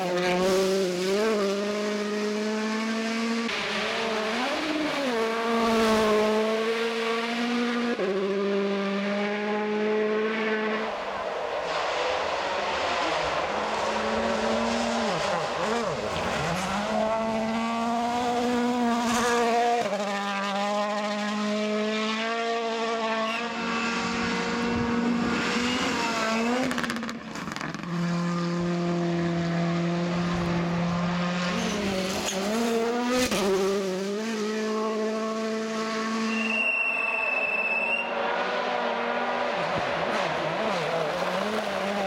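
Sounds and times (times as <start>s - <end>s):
rally car engines at high revs: 0.0s - 42.0s.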